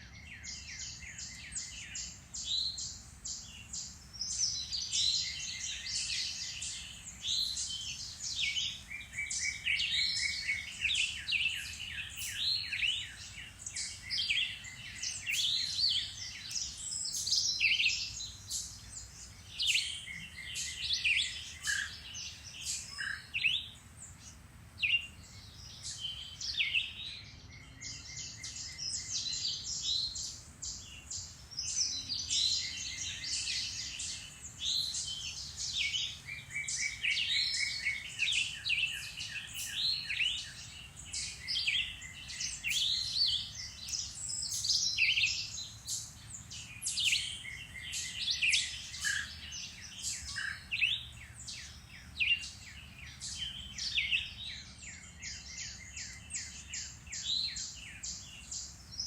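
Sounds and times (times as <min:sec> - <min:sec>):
chorus of songbirds singing: 0:00.0 - 0:59.0.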